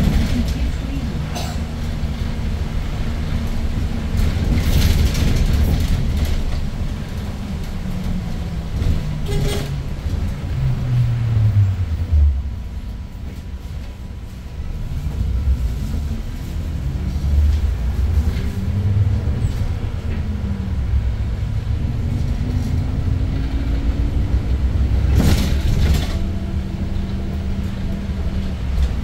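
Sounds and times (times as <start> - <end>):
bus engine droning: 0.0 - 29.0
passenger cabin noise: 0.0 - 29.0.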